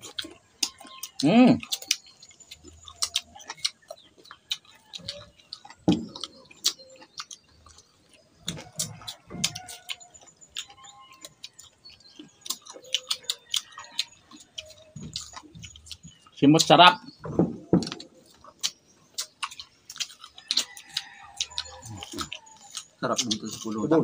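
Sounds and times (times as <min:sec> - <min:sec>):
chewing crisp fruit: 0:00.0 - 0:24.0.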